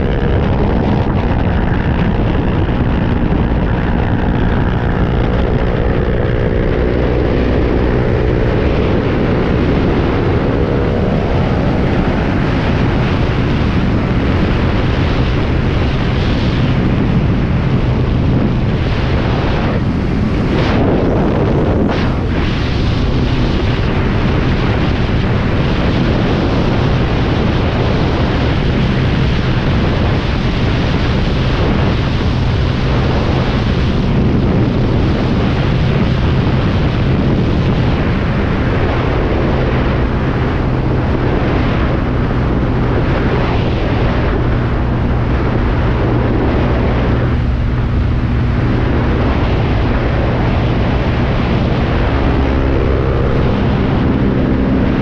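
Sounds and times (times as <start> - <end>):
motorcycle engine at high revs: 0.0 - 55.0
second motorcycle engine: 0.0 - 55.0
wind noise on microphone: 0.0 - 55.0.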